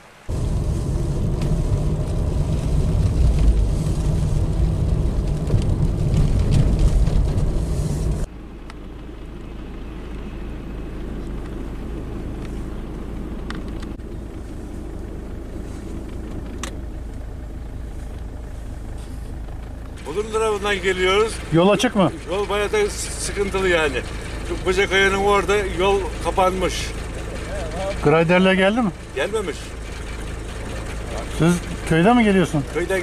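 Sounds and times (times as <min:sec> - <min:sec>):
low rumble: 0:00.0 - 0:33.0
heavy machine engine running: 0:00.2 - 0:33.0.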